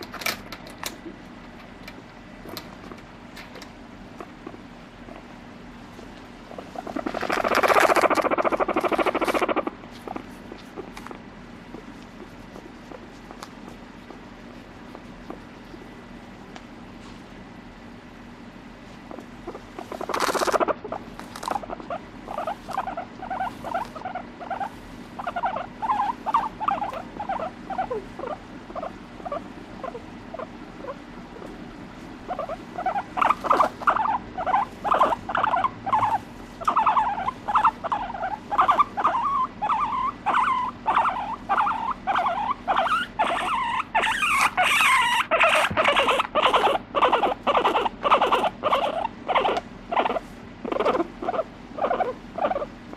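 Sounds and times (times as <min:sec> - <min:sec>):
guinea pig purring: 0:03.5 - 0:17.2, 0:18.9 - 0:52.9.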